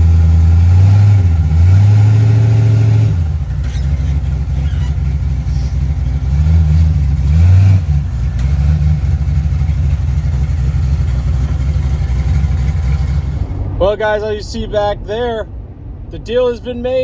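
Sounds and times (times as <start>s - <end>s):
vehicle engine revving: 0.0s - 14.4s.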